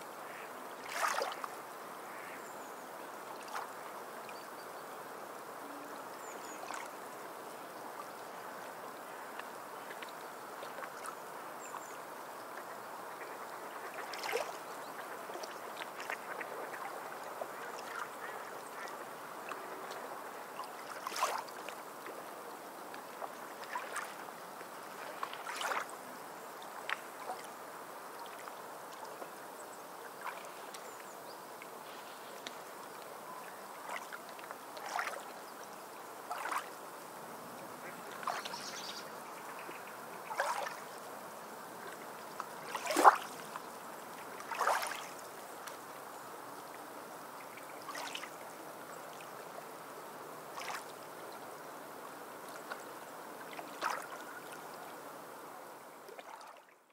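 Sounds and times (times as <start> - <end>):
steady wash of sea water: 0.0 - 2.4, 3.0 - 4.1, 6.4 - 9.3, 9.9 - 56.8.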